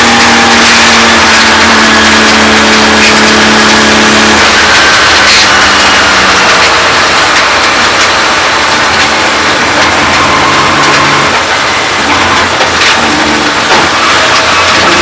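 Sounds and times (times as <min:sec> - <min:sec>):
car engine running loud: 0:00.0 - 0:15.0
road and wind noise: 0:00.0 - 0:15.0.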